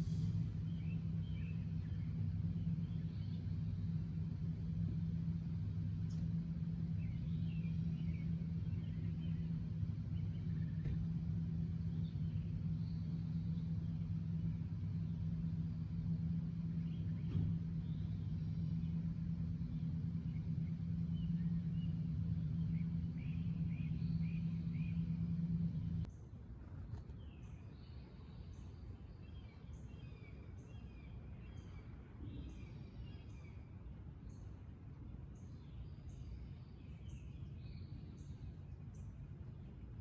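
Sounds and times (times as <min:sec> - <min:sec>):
small birds chirping: 0:00.0 - 0:26.2, 0:26.9 - 0:40.0
low machine hum: 0:00.0 - 0:40.0.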